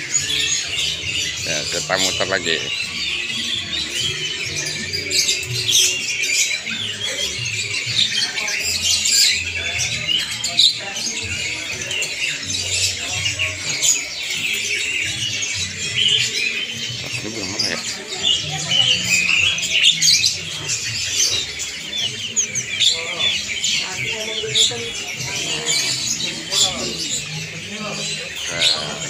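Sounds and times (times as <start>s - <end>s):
caged birds chirping and squawking: 0.0s - 29.0s.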